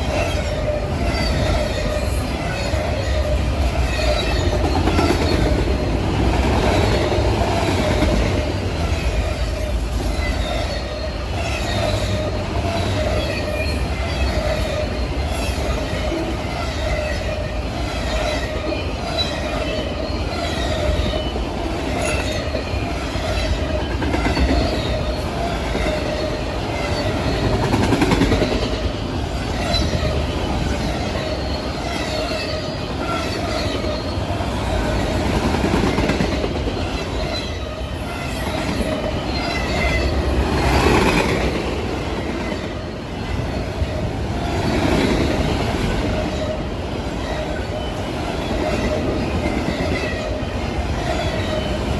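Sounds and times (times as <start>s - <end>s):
train wheels rumbling on rails: 0.0s - 51.9s
train wheels squealing: 0.0s - 51.9s.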